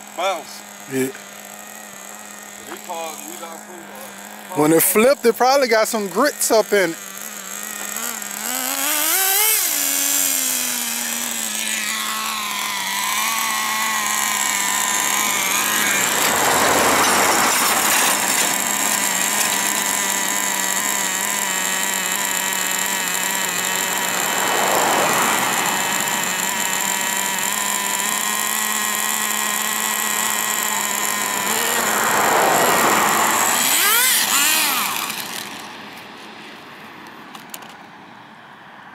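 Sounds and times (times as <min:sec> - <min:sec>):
small engine high whine: 0:00.0 - 0:38.9.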